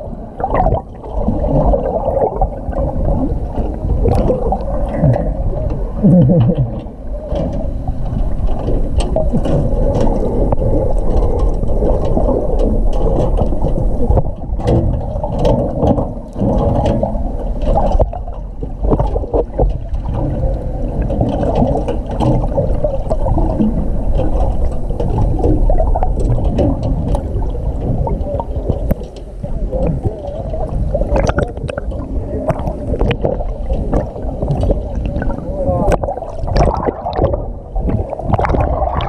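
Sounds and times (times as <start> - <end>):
muffled churning water underwater: 0.0 - 39.0
sharp clicks and knocks: 3.5 - 39.0.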